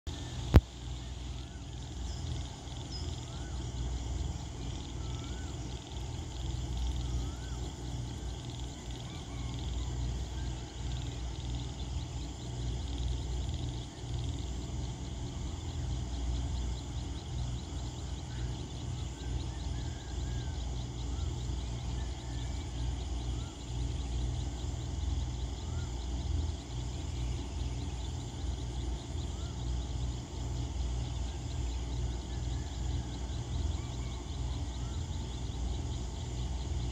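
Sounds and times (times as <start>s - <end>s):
frogs and insects chorus: 0.1s - 36.9s.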